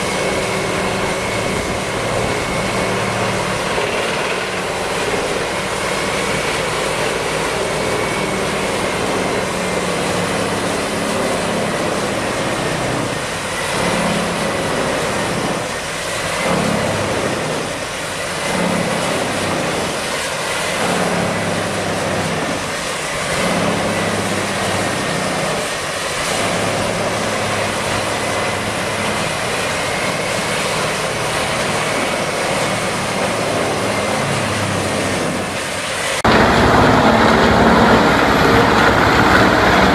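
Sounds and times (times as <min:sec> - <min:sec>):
wood chipper engine drone: 0:00.0 - 0:39.9.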